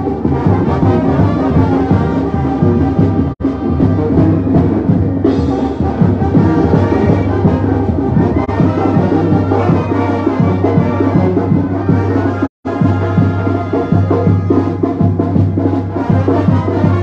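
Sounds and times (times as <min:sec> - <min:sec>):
brass band music: 0:00.0 - 0:17.0
heavy drums: 0:00.0 - 0:17.0.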